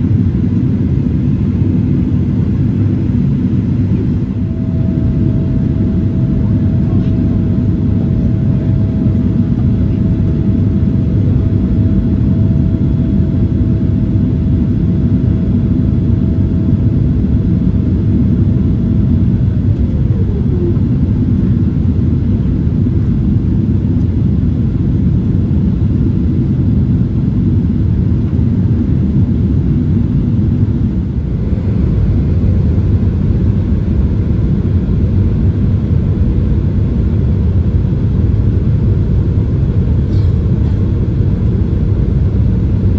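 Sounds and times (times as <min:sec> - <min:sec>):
aircraft cabin engine rumble: 0:00.0 - 0:42.9.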